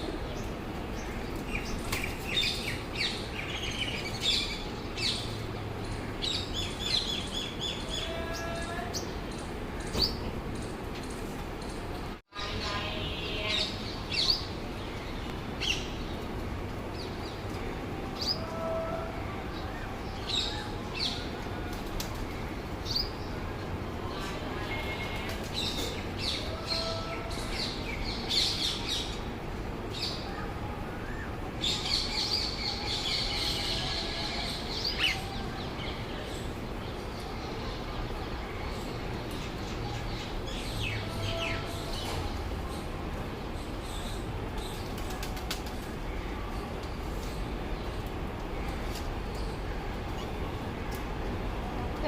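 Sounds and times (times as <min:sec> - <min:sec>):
flock of birds chirping: 0:00.0 - 0:52.0.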